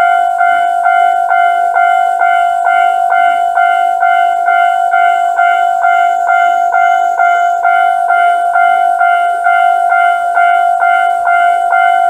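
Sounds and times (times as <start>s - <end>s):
level crossing alarm ringing: 0.0s - 12.0s.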